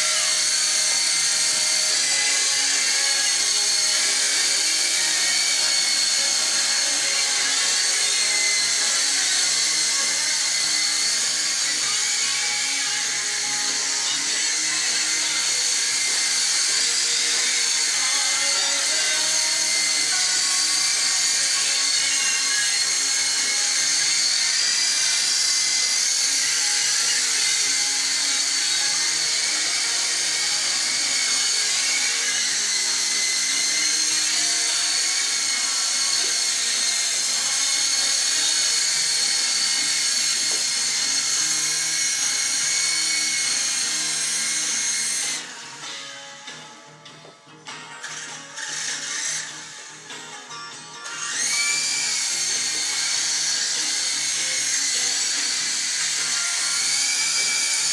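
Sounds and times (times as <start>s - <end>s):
toy helicopter motor whine: 0.0s - 46.9s, 47.8s - 57.9s.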